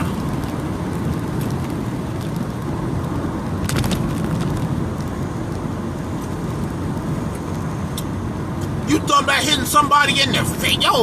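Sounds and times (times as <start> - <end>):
moving car rumble: 0.0 - 11.0.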